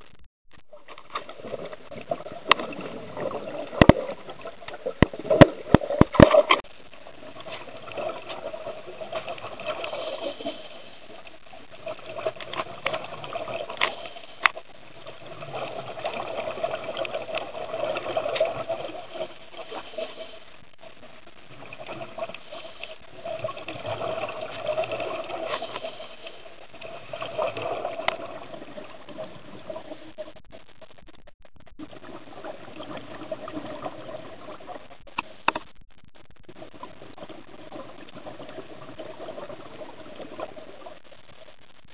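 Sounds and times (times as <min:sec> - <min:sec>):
underwater bubbles crackling: 0:00.0 - 0:41.9.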